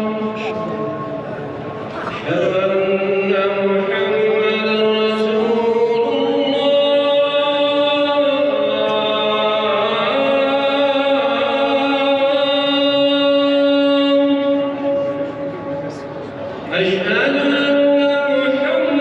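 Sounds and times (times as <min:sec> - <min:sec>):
man chanting call to prayer: 0:00.0 - 0:16.1, 0:16.7 - 0:19.0.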